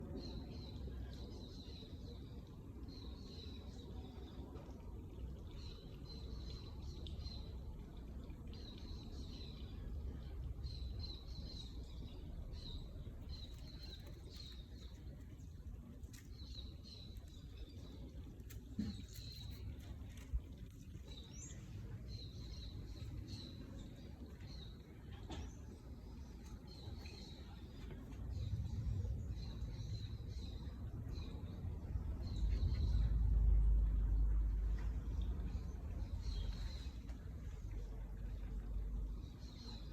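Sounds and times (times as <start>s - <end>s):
small birds chirping: 0.0s - 33.3s, 33.9s - 39.9s
low outdoor rumble: 0.0s - 39.9s.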